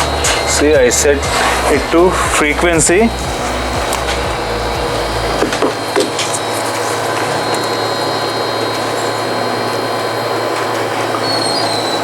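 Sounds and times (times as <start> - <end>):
air conditioner buzzing hum: 0.0 - 12.0
air conditioner running noise: 0.0 - 12.0.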